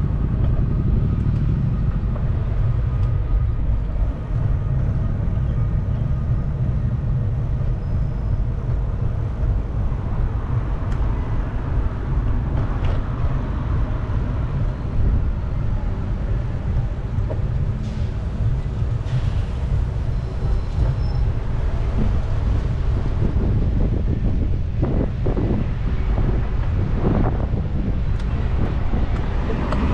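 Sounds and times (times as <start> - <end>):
street noise: 0.0 - 29.9
wind buffeting microphone: 0.0 - 29.9.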